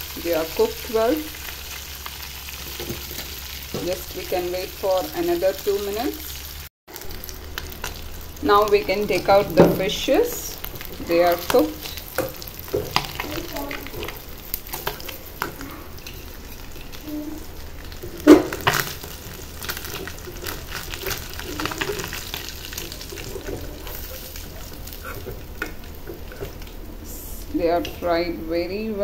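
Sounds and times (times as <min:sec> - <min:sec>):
fish sizzling in frying oil: 0:00.0 - 0:28.6.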